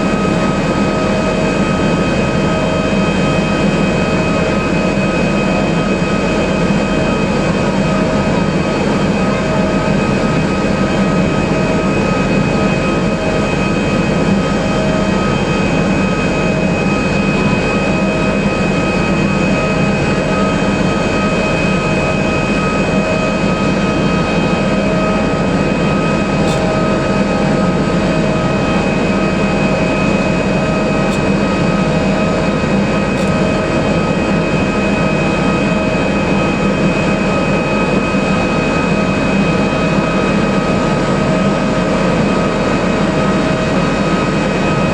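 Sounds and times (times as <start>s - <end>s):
jet engines running: 0.0s - 44.9s.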